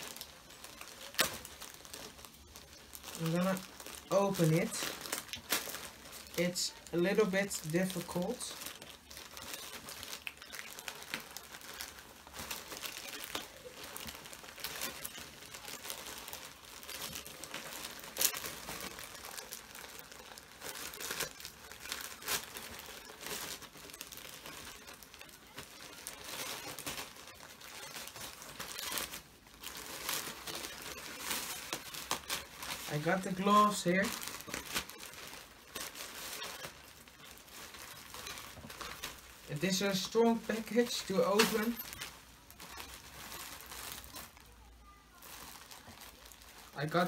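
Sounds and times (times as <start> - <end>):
plastic mailer bag crinkling: 0.0 - 47.0.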